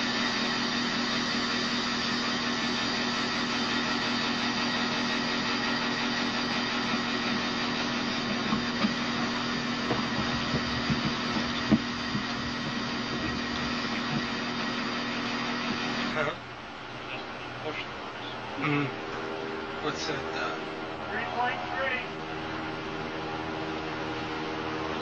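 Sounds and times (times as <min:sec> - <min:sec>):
blower fan hum and rushing air: 0:00.0 - 0:25.0.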